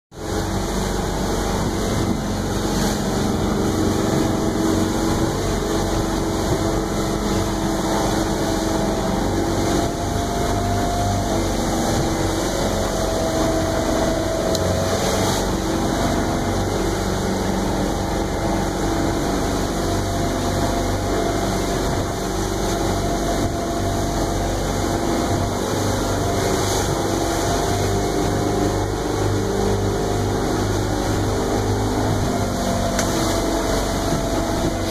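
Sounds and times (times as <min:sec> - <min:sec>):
boat engine droning: 0:00.1 - 0:34.9
water rushing against hull: 0:00.1 - 0:34.9.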